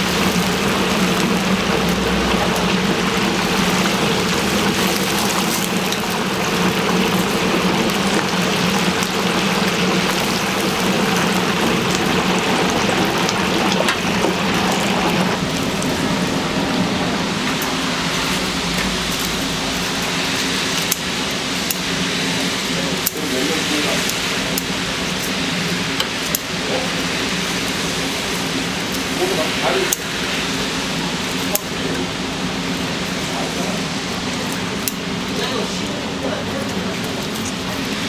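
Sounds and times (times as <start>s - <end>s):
chicken deep-frying in oil: 0.0s - 38.0s
constant low hum: 0.0s - 38.0s.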